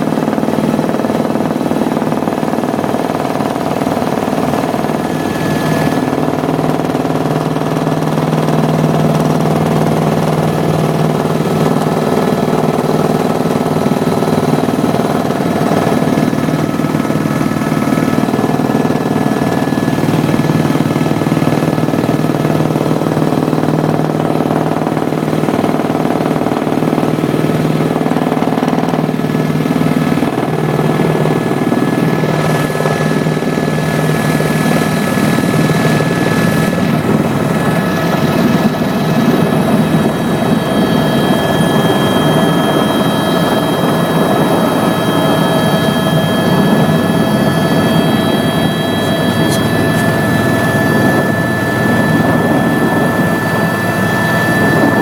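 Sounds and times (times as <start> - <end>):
helicopter cabin drone and whine: 0.0 - 55.0.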